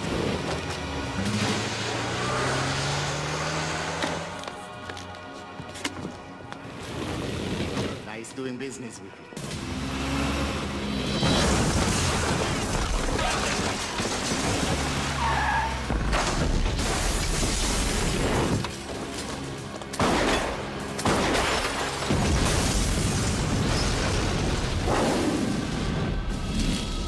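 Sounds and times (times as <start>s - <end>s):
dramatic music score: 0.0s - 27.0s.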